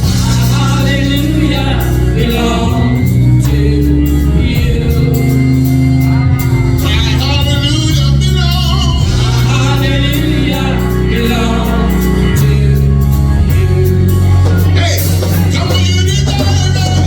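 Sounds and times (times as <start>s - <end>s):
bass line: 0.0s - 17.0s
live band playing: 0.0s - 17.0s
voices singing: 0.0s - 17.0s.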